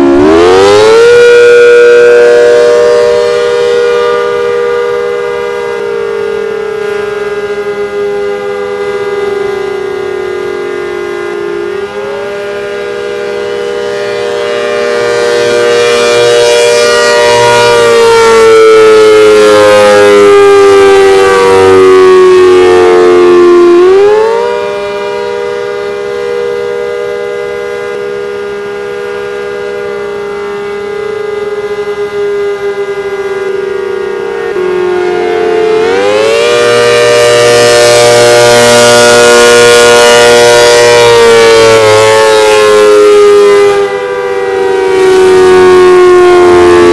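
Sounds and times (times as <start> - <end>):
warning siren chord: 0.0 - 46.9.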